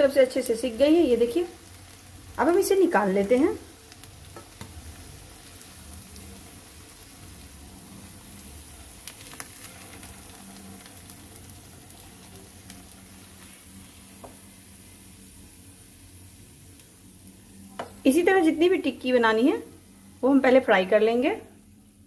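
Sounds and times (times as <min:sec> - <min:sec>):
oil sizzling in a frying pan: 0:00.0 - 0:22.0.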